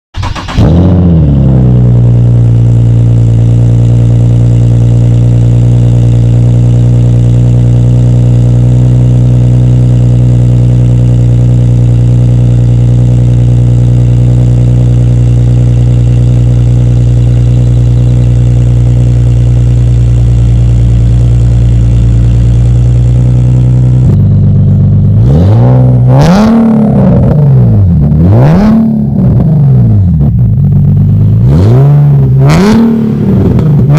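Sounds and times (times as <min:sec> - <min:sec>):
car engine cold start and idle: 0:00.1 - 0:33.9
engine revving: 0:00.2 - 0:33.9.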